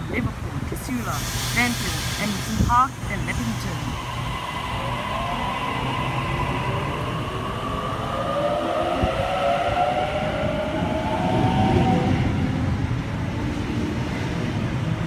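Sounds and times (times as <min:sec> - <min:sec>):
train wheels rumbling: 0:00.0 - 0:15.0
train traction motors whining: 0:00.3 - 0:13.1.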